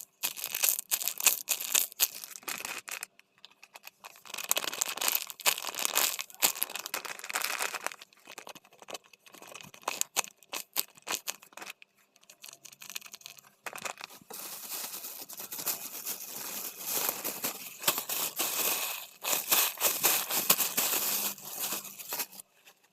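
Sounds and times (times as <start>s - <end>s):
plastic packaging crinkling: 0.0s - 22.4s.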